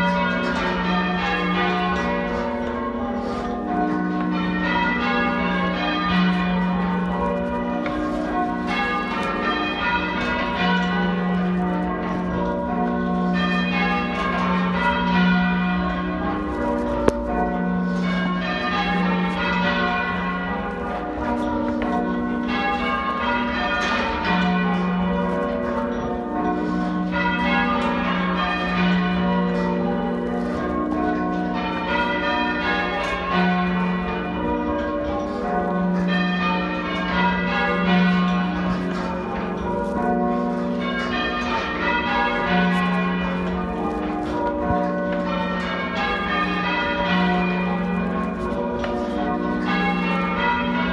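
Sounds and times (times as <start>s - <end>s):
half-muffled church bells ringing: 0.0s - 50.9s.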